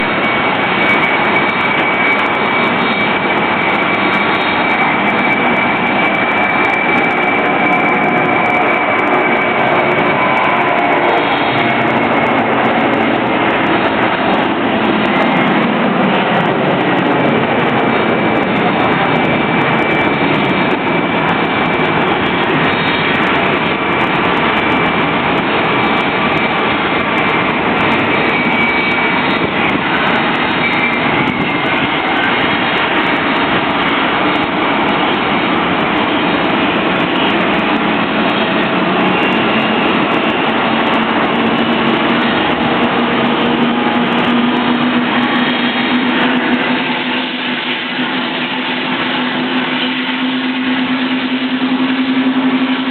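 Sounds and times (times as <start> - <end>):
jet engine starting: 0.0 - 52.9.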